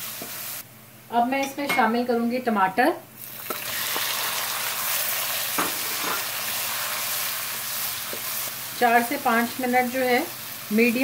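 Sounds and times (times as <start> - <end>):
tomatoes sizzling in pan: 0.0 - 2.0, 3.2 - 11.0.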